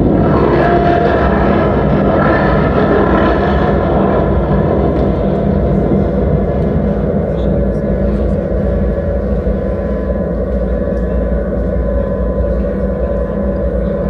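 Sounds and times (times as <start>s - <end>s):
electronic drone music: 0.0s - 14.0s.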